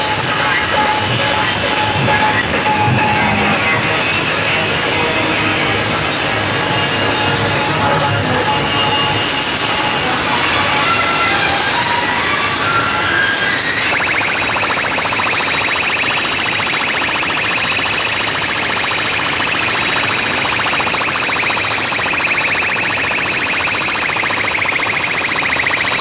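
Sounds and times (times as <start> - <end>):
harsh fast-pulsing electronic buzz: 0.0 - 26.0.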